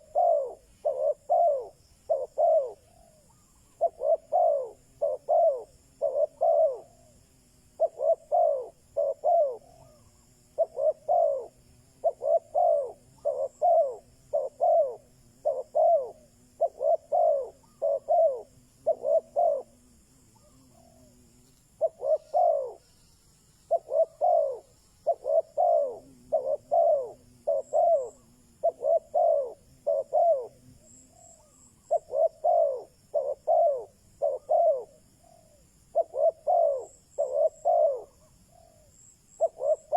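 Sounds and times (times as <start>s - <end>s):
dove cooing: 0.0s - 7.1s, 7.8s - 22.9s, 23.7s - 39.9s.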